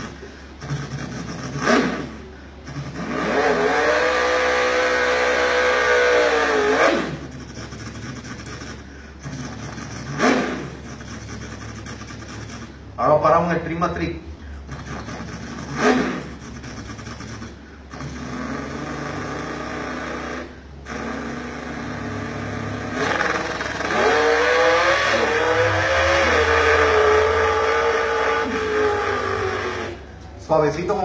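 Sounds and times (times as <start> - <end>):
man imitating a drag car engine: 0.0 - 31.0.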